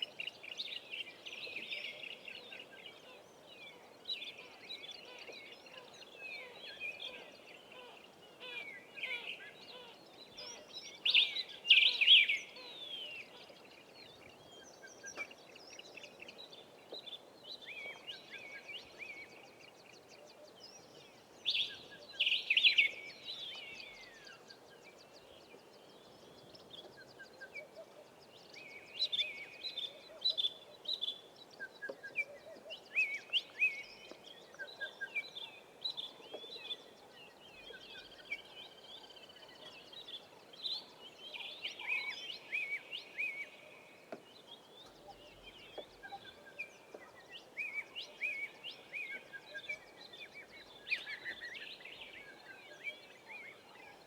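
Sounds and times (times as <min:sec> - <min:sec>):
birds calling and singing: 0:00.0 - 0:54.0.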